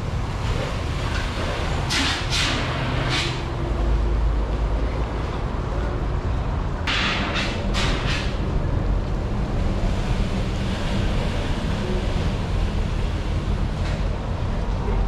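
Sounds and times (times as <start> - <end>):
machinery rumbling: 0.0 - 15.0.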